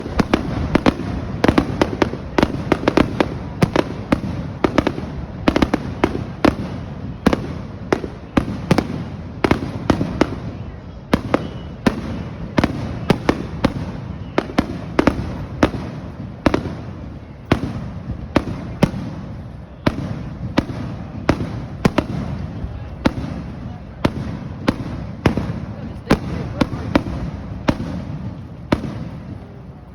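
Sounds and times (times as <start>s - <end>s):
fireworks bangs: 0.0s - 29.9s.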